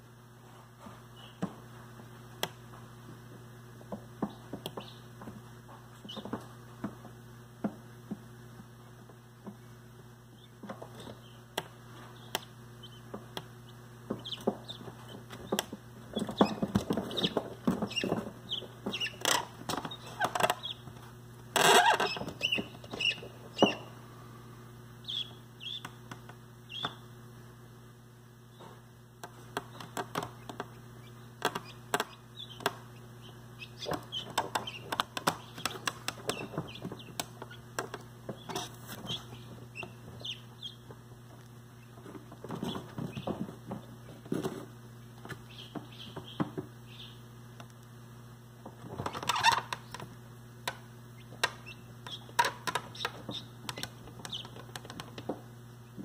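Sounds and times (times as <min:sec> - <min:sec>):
low incubator hum: 0:00.0 - 0:56.0
chicks scuffling and tapping: 0:00.4 - 0:27.2, 0:28.5 - 0:56.0
chicks peeping: 0:01.1 - 0:01.5, 0:03.8 - 0:07.0, 0:10.2 - 0:27.2, 0:28.4 - 0:47.8, 0:48.7 - 0:56.0.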